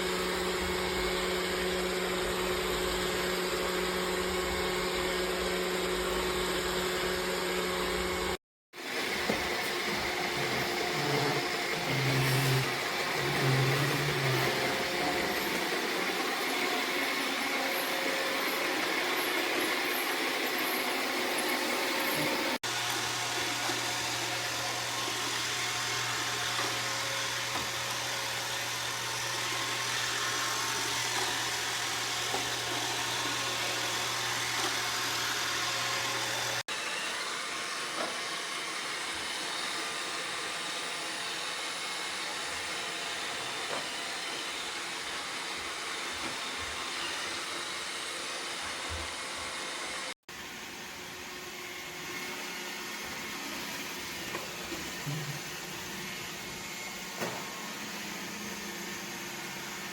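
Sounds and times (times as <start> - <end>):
robot vacuum whirring: 8.8 - 59.9.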